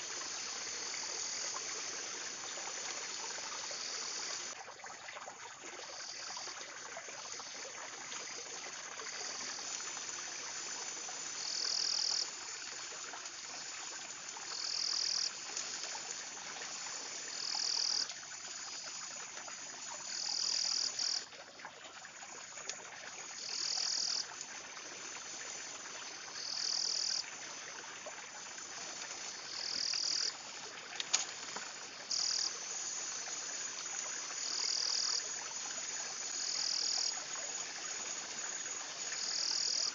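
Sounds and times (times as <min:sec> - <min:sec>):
stream-like hiss: 0:00.0 - 0:39.9.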